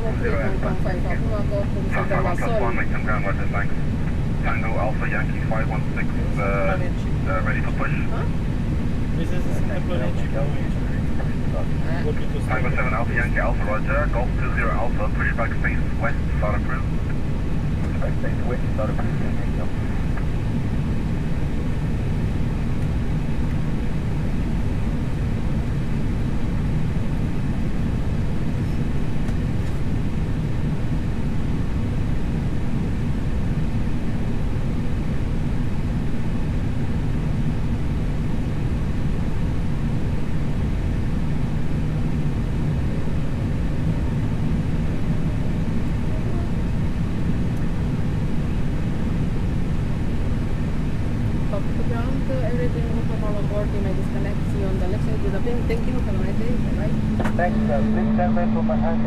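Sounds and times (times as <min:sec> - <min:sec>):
airliner cockpit rumble and hiss: 0:00.0 - 0:59.0.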